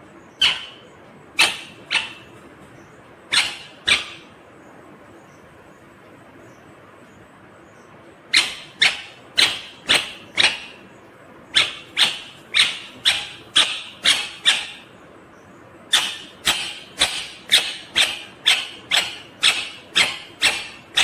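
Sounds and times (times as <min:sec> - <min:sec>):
parakeet calling: 0:00.2 - 0:05.5, 0:07.7 - 0:21.0.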